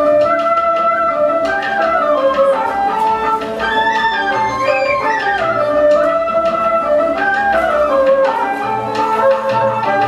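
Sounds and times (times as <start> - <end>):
traditional melody: 0.0 - 10.0.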